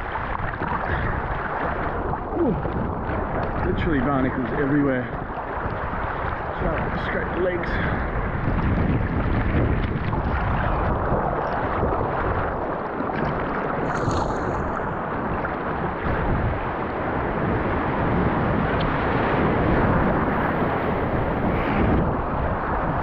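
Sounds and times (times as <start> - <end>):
seawater rushing and surging: 0.0 - 23.0
wind buffeting microphone: 0.0 - 23.0.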